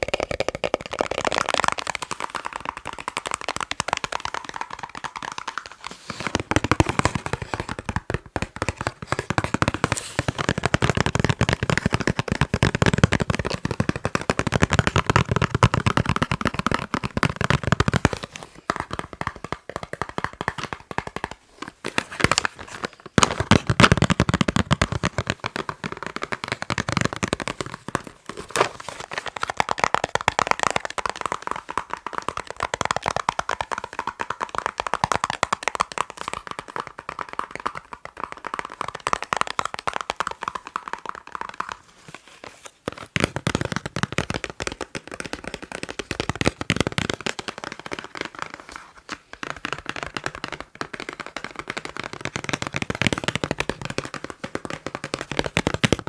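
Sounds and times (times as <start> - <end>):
fast tapping on boxes: 0.0 - 56.0.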